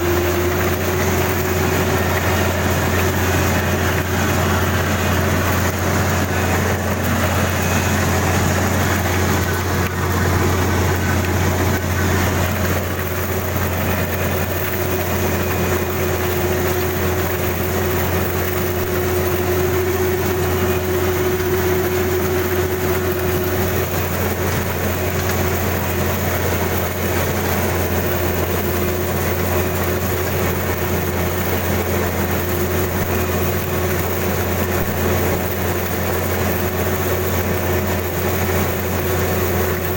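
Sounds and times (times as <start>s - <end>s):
faint whine: 0.0s - 35.4s
combine harvester running: 0.0s - 39.9s.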